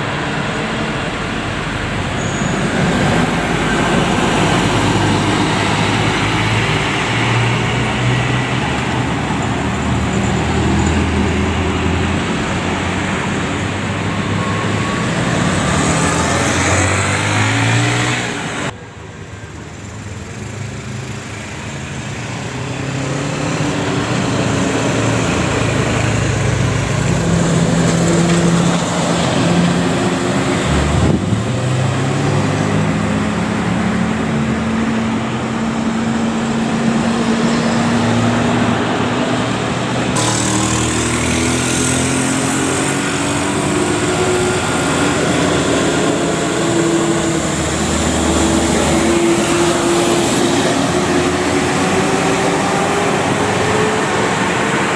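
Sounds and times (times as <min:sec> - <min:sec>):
large vehicle engines pulling away: 0:00.0 - 0:18.8, 0:19.4 - 0:54.9.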